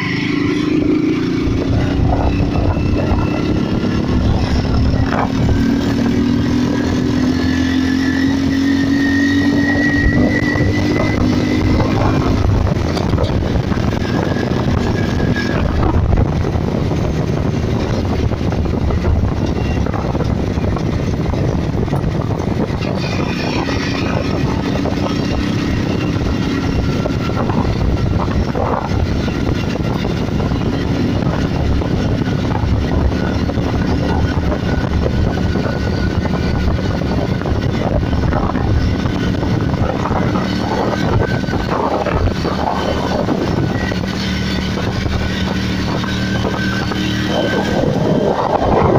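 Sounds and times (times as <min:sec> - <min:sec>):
rushing air: 0:00.0 - 0:48.9
train wheels rumbling on rails: 0:00.0 - 0:48.9.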